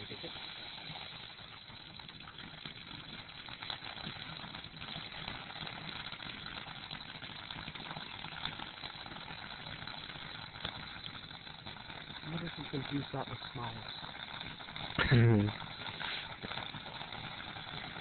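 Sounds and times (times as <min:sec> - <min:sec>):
firework fountain hissing: 0:00.0 - 0:18.0
sharp crackles: 0:00.0 - 0:18.0.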